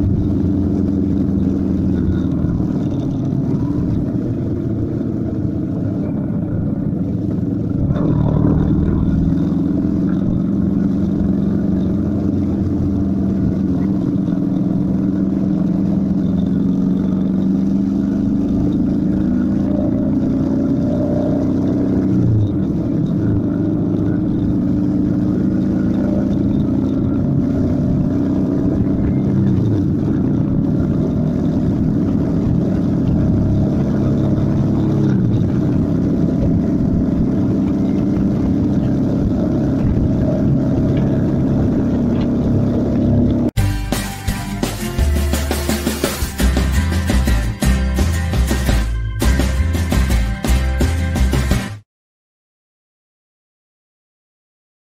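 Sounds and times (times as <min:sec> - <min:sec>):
motorcycle engine running: 0:00.0 - 0:51.8.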